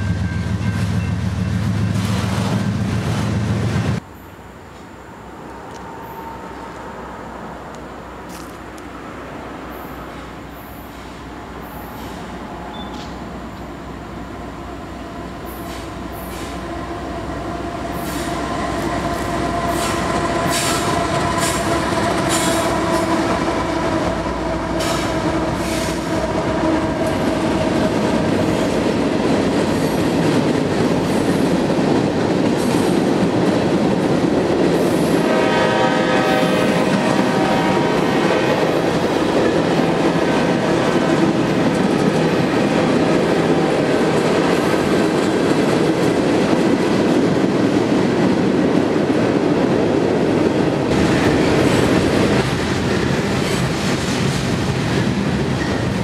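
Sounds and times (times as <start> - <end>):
diesel locomotives passing: 0.0 - 56.0
steady locomotive tones: 0.0 - 56.0.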